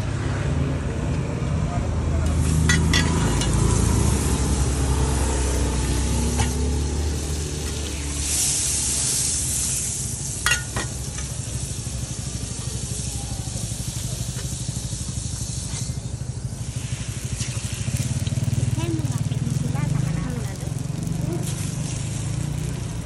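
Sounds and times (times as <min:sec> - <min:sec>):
butter and oil sizzling on griddle: 0:02.3 - 0:23.0.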